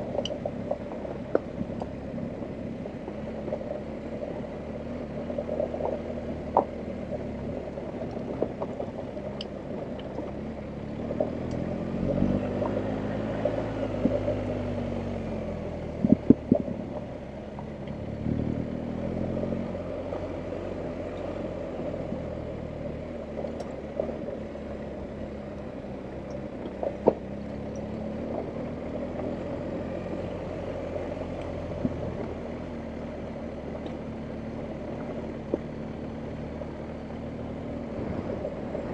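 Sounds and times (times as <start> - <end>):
motorcycle engine at low revs: 0.0 - 38.9.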